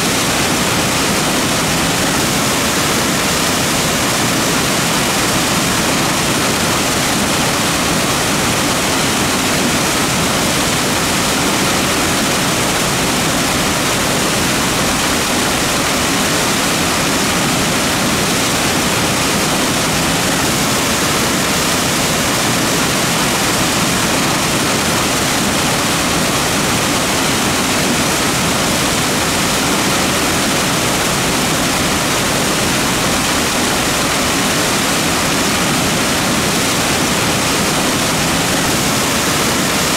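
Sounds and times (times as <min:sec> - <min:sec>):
creek rushing over rocks: 0:00.0 - 0:39.9.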